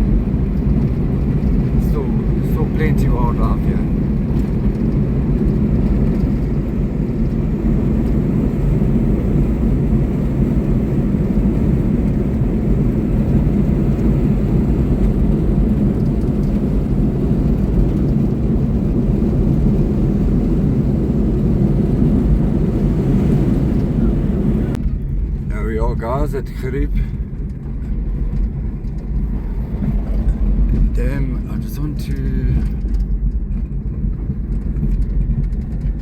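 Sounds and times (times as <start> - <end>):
truck engine and tyre drone: 0.0 - 36.0.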